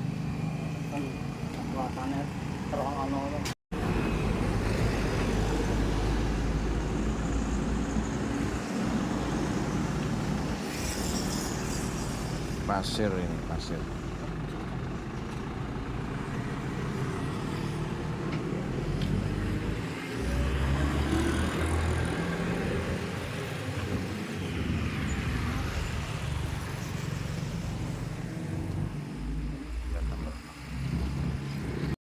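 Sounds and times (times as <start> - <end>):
road traffic noise: 0.0 - 32.0
vehicle engine rumbling: 0.0 - 32.0.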